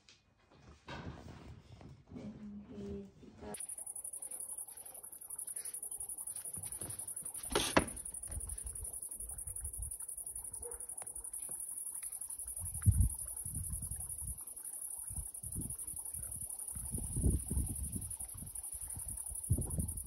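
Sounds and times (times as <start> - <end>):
cicadas buzzing: 3.6 - 20.0.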